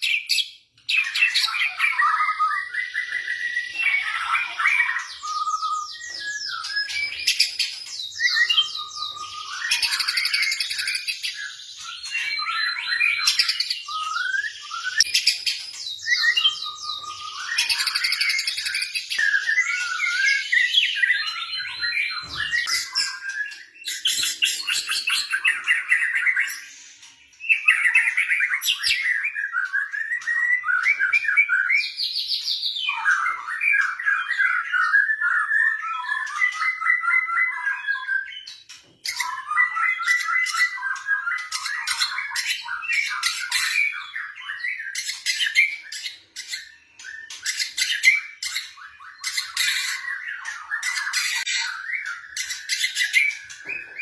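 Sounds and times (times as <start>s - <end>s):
bird singing varied song: 0.0s - 54.0s.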